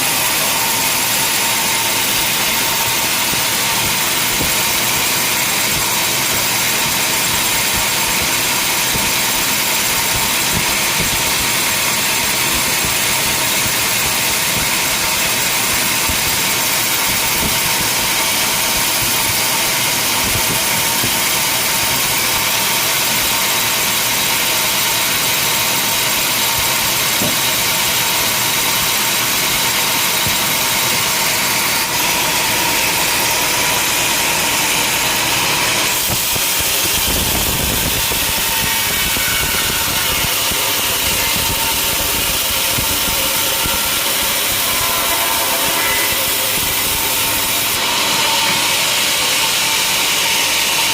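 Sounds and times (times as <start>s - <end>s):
sawmill machinery running: 0.0s - 50.9s.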